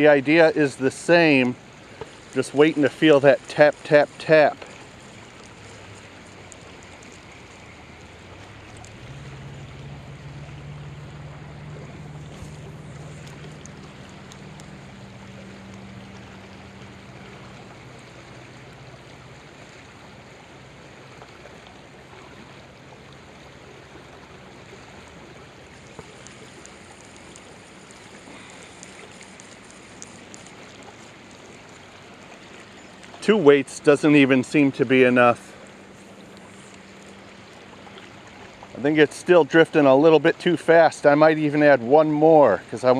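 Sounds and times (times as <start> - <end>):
creek water rushing: 0.0 - 42.9
low steady hum: 0.0 - 42.9.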